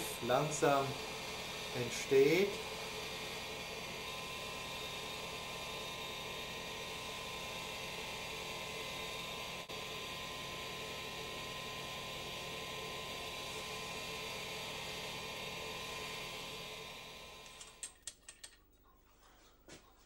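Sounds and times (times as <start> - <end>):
electric motor hum and hiss: 0.0 - 17.8.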